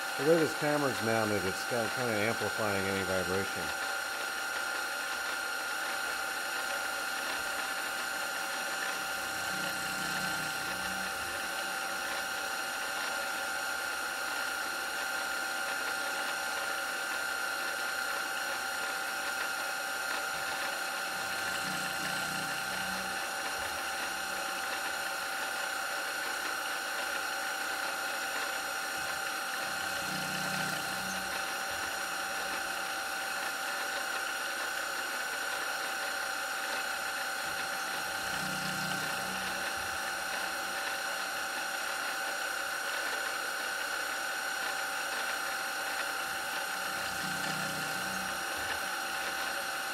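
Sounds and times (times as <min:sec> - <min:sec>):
milling spindle whine: 0:00.0 - 0:49.9.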